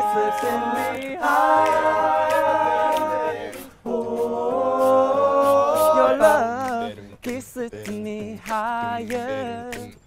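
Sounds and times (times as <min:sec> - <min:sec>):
male a cappella group singing: 0:00.0 - 0:10.0.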